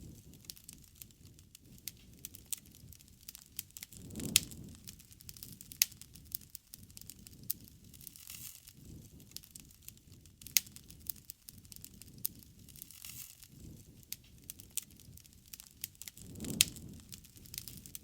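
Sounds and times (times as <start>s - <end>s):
campfire crackling and popping: 0.0s - 18.0s
low rush of flame: 0.0s - 18.0s.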